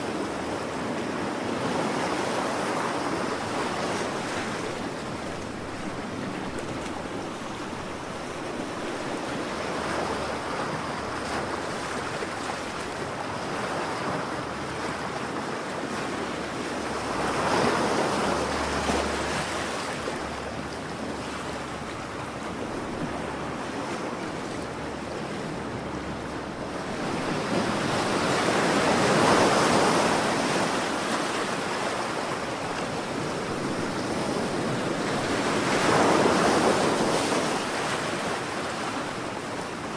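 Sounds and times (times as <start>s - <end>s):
ocean waves washing onto shore: 0.0s - 39.9s.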